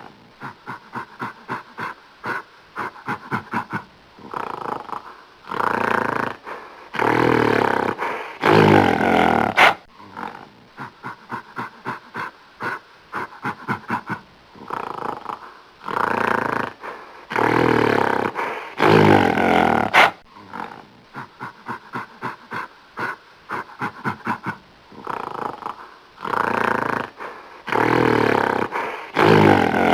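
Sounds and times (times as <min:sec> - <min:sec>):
gorilla grunts: 0:00.0 - 0:29.9
gorilla snarling: 0:00.0 - 0:29.9.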